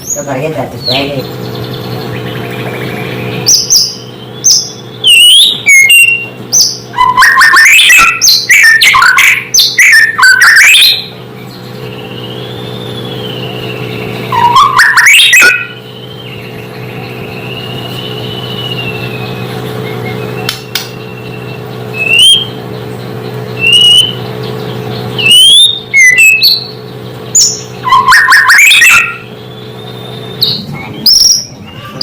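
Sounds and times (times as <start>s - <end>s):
steady low hum: 0.0s - 32.0s
bird singing whistles: 2.8s - 11.1s, 11.8s - 22.6s, 23.5s - 24.3s, 25.1s - 31.9s.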